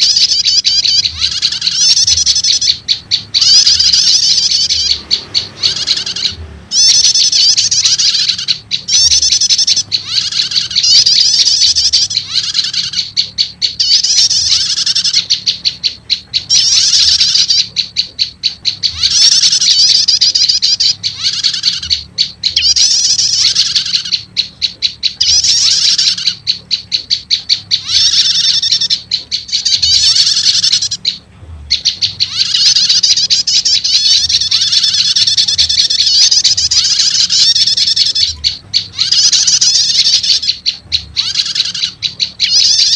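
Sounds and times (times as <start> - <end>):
bird chirping rapidly: 0.0 - 42.9.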